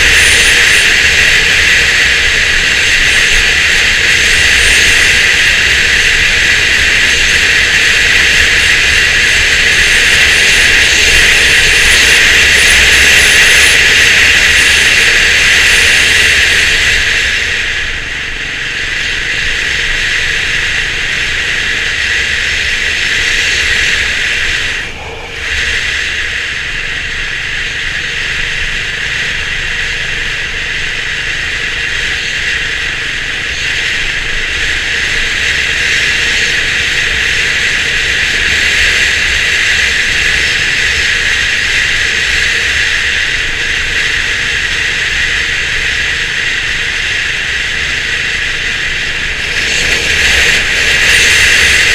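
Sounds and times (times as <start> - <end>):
low engine rumble: 0.0 - 51.9
wind and road noise: 0.0 - 51.9.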